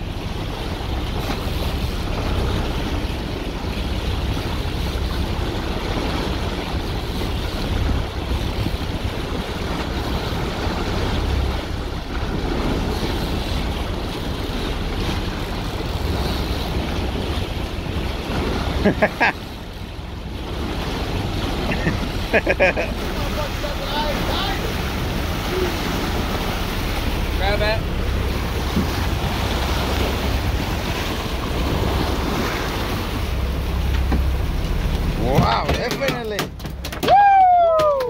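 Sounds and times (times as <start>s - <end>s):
sea washing around a boat: 0.0s - 38.0s
wind buffeting microphone: 0.0s - 38.0s.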